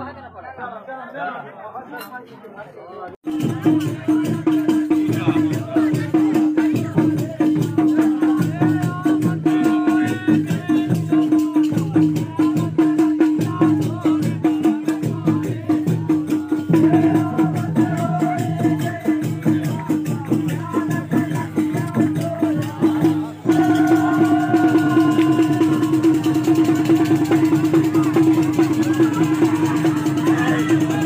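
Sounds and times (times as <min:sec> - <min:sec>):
jingling rattle percussion: 0:03.3 - 0:31.0.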